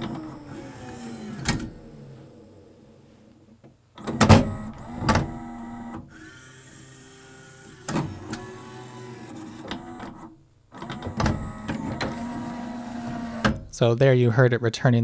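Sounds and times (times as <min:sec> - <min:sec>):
motor whine: 0:00.0 - 0:13.6.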